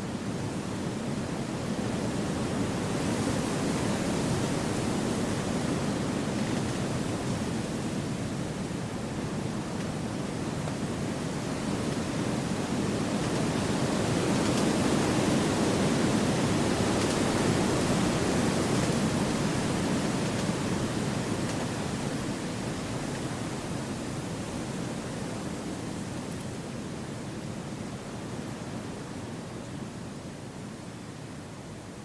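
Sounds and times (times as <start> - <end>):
wind rushing through trees: 0.0 - 32.0.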